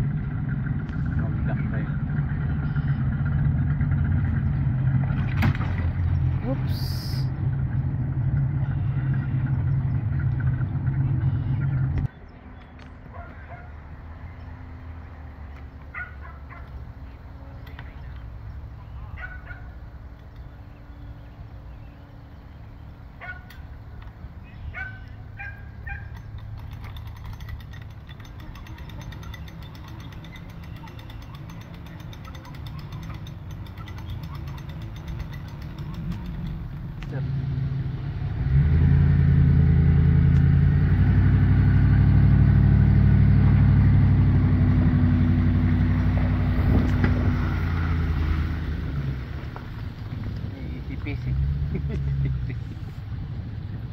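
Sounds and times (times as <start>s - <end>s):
engine running under load: 0.0s - 53.9s
low steady rumble: 0.0s - 53.9s.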